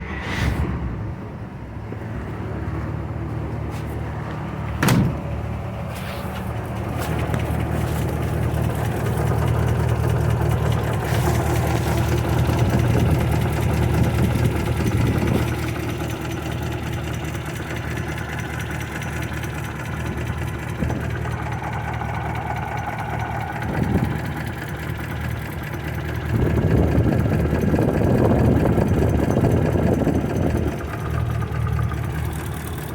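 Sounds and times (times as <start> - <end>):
car engine running: 0.9 - 32.9
engine knocking: 4.6 - 32.9.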